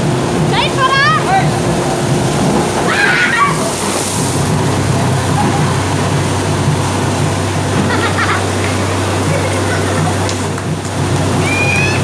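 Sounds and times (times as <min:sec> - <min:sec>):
drilling rig engine drone: 0:00.0 - 0:12.0
rush of compressed air and water: 0:01.2 - 0:12.0.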